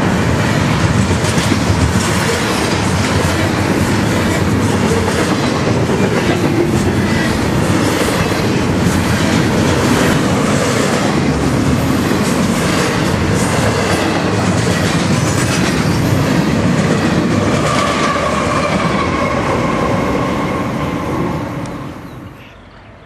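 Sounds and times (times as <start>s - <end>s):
freight train wheels rumbling: 0.0s - 22.4s.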